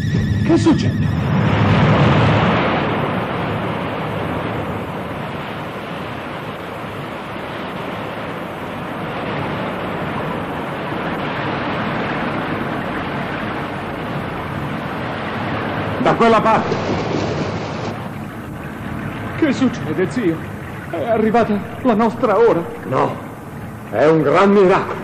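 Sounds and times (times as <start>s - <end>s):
water rushing torrent: 0.0s - 25.0s.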